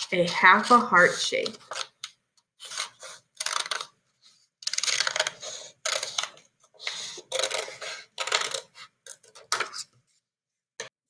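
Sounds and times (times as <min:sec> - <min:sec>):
scissors cutting paper: 0:00.0 - 0:04.0, 0:04.6 - 0:09.8.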